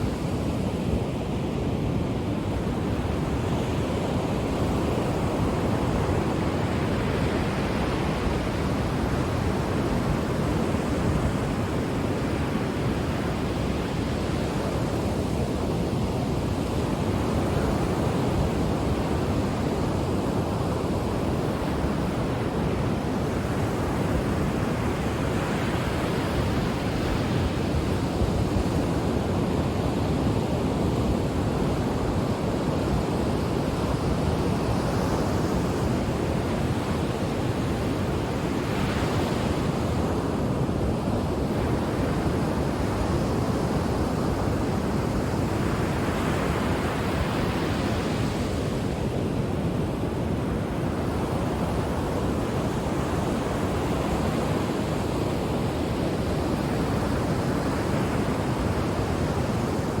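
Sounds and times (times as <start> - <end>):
ocean surf roaring: 0.0 - 60.0.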